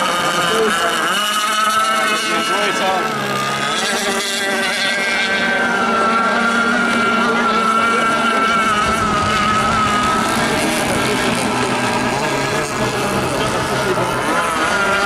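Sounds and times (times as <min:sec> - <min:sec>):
outboard motor high engine whine: 0:00.0 - 0:15.0.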